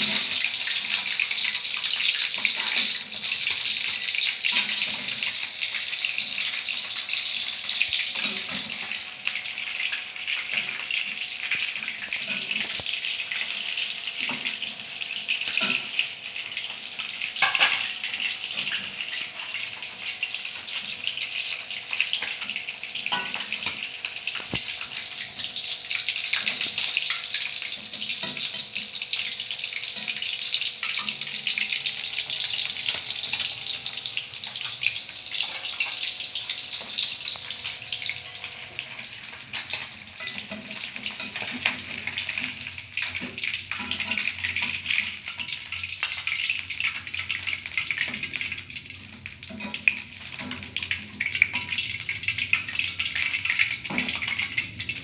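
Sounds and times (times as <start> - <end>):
chicken deep-frying in oil: 0.0 - 55.0.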